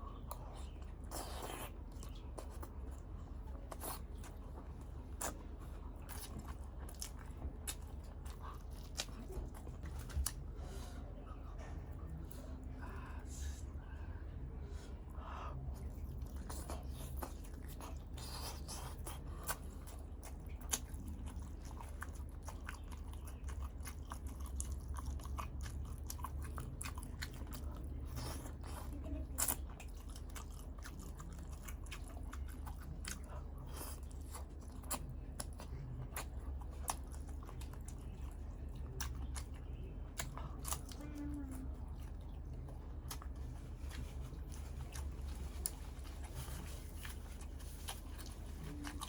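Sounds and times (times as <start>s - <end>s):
person chewing: 0.2s - 10.8s, 15.6s - 49.0s.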